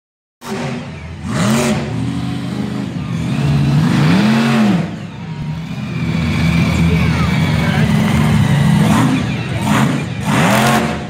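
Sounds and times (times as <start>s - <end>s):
truck engine revving: 0.4s - 11.0s.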